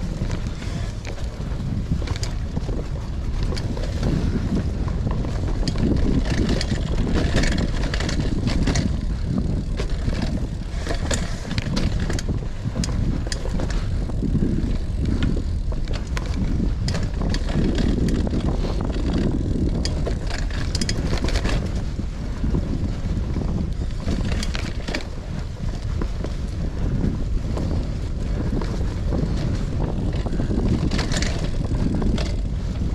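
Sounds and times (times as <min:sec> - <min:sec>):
bike clicks and rattles: 0:00.0 - 0:32.9
bike tyres rolling on dirt: 0:00.0 - 0:32.9
wind rushing over microphone: 0:00.0 - 0:32.9.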